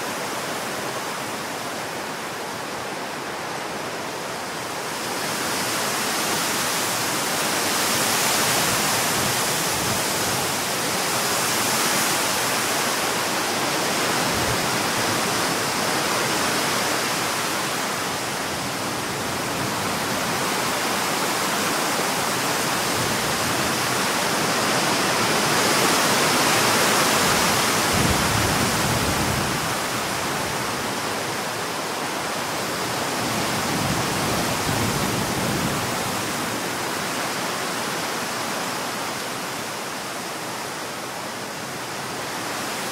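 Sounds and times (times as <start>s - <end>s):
storm wind rushing through trees: 0.0s - 42.9s.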